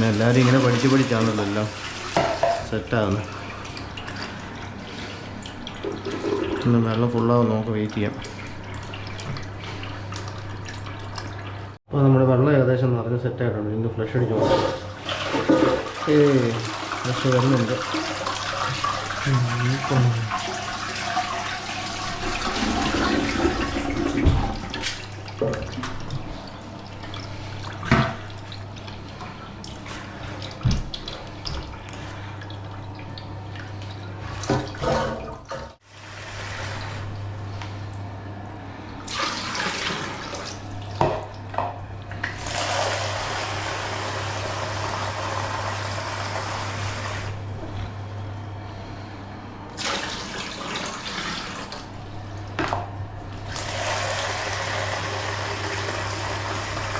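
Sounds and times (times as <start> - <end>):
cistern refilling: 0.0 - 11.8, 14.3 - 47.6, 49.7 - 52.6, 53.3 - 56.9
toilet flushing: 0.0 - 11.8, 14.1 - 37.9, 38.5 - 47.8, 49.7 - 56.9
low steady hum: 0.0 - 56.9.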